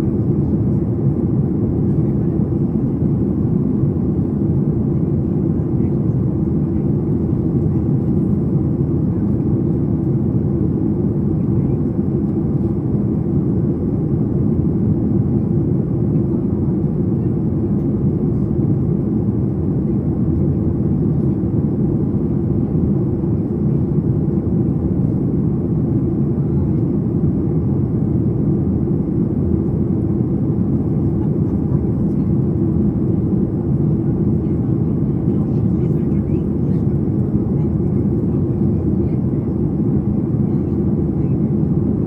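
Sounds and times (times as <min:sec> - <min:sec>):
airplane cabin rumble: 0:00.0 - 0:42.0.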